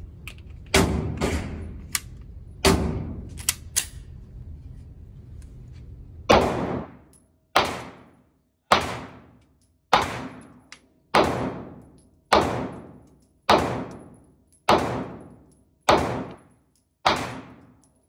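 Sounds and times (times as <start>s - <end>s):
pistol shots echoing indoors: 0.7s - 3.9s, 6.3s - 18.0s.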